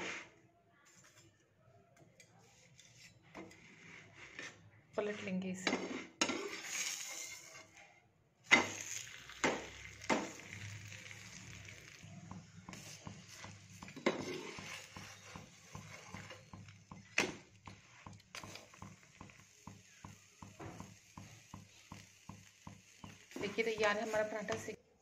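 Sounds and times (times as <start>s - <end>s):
spatula clinking and scraping pan: 2.2s - 7.8s, 8.5s - 24.8s
flatbread sizzling in pan: 2.9s - 4.6s, 5.8s - 7.8s, 8.4s - 24.8s.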